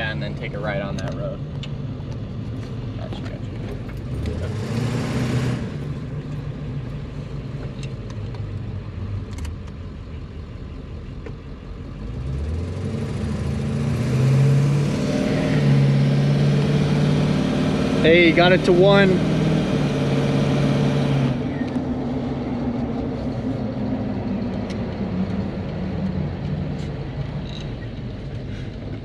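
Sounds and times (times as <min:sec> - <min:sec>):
diesel engine accelerating hard: 0:00.0 - 0:29.0.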